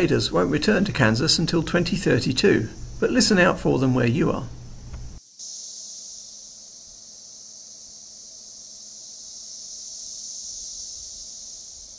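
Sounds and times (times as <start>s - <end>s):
cicadas buzzing: 0.0s - 11.9s.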